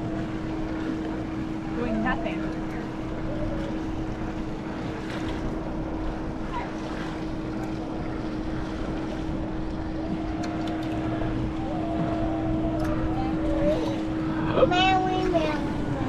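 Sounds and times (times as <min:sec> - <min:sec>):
boat motor humming: 0:00.0 - 0:16.0
water: 0:00.0 - 0:16.0
wind: 0:00.0 - 0:16.0.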